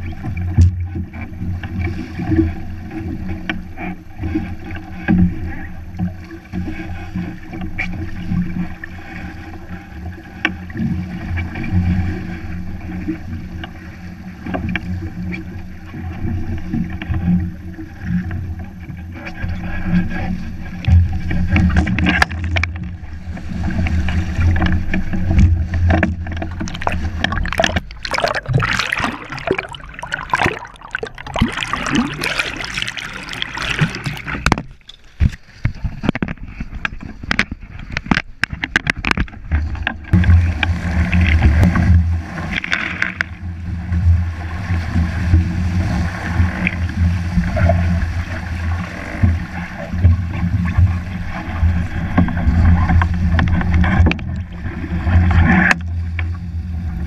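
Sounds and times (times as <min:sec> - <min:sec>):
wind rumble on microphone: 0:00.0 - 0:29.8, 0:33.8 - 0:57.0
water splashing against hulls: 0:00.0 - 0:57.0.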